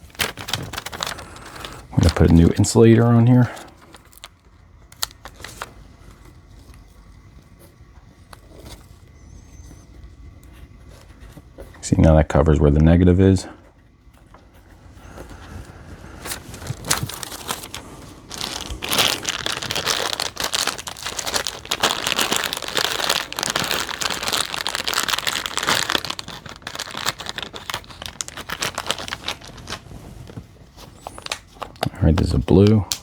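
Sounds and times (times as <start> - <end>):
thin plastic crinkling: 0.0 - 9.8, 14.2 - 33.0.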